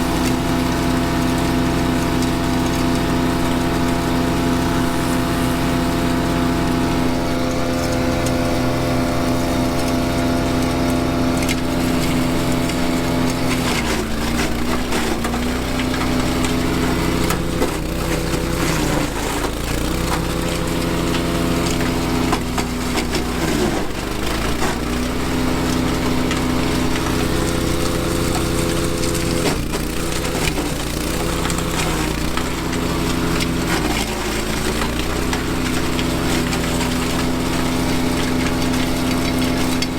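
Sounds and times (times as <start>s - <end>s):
wood chipper engine labouring: 0.0s - 39.9s
splintering wood crackle: 0.1s - 39.9s.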